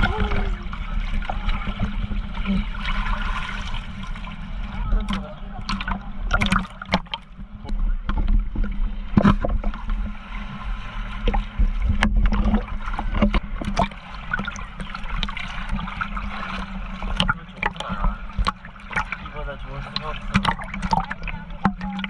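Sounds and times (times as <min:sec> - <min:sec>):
low rumble: 0:00.0 - 0:22.0
water sloshing and splashing: 0:00.0 - 0:22.0.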